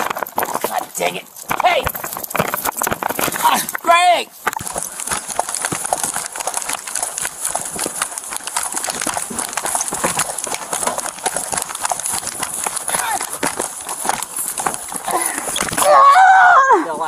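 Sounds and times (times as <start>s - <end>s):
running footsteps on grass: 0.0s - 16.6s.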